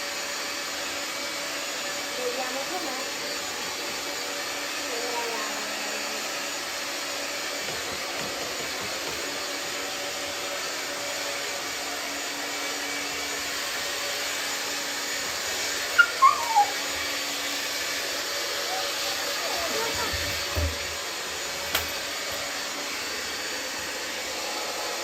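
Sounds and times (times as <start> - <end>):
dryer blowing air: 0.0 - 25.0.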